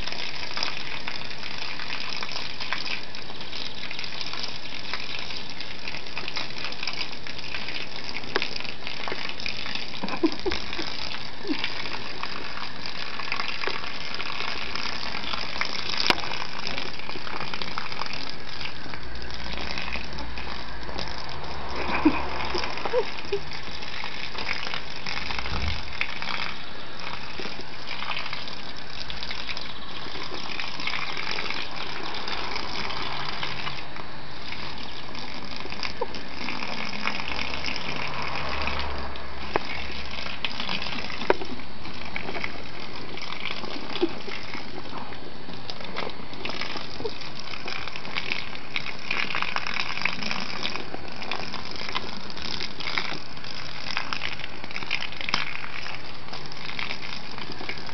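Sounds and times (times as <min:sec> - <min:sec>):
hose water splashing on grass: 0:00.0 - 0:57.9.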